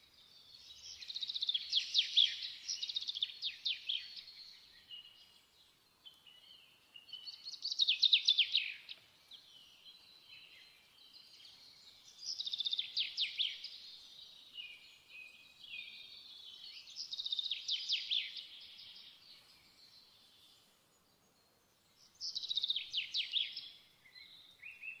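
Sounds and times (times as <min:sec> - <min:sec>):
songbird singing trills: 0:00.0 - 0:25.0.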